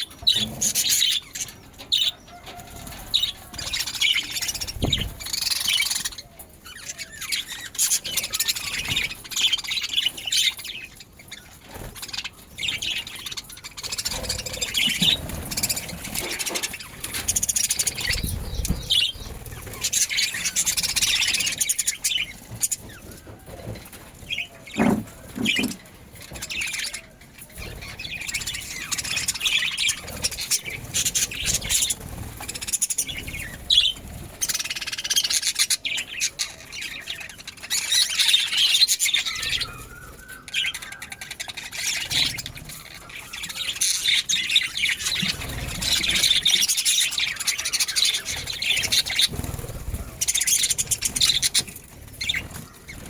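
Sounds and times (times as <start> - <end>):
budgerigars chattering and chirping: 0.0 - 53.0.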